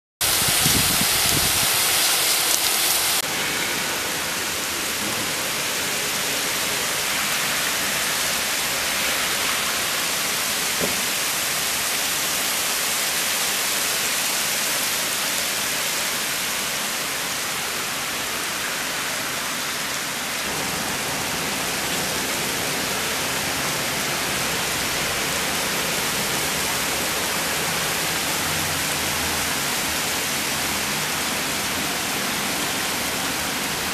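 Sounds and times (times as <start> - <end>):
heavy rain on paving: 0.2 - 33.9.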